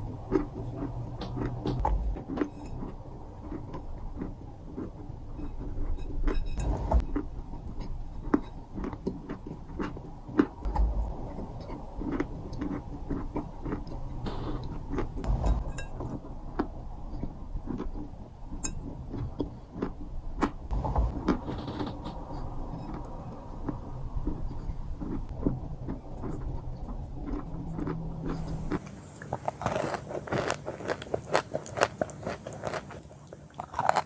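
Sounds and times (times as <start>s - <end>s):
crunching and crackling clicks: 0.0s - 34.0s.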